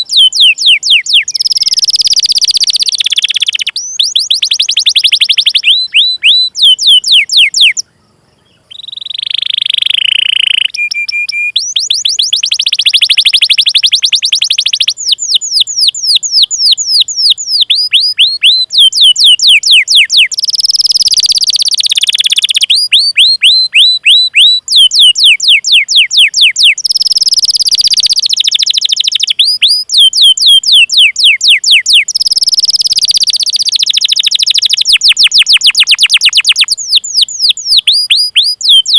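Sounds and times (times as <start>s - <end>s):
canary singing chirps and trills: 0.0s - 38.9s.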